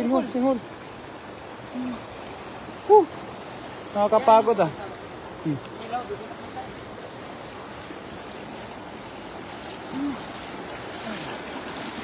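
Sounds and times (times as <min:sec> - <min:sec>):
shallow water rushing and splashing: 0:00.0 - 0:12.0.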